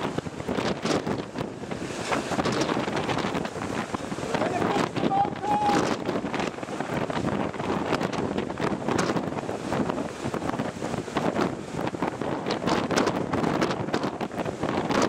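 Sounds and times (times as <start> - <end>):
wind gusting across microphone: 0.0 - 15.0.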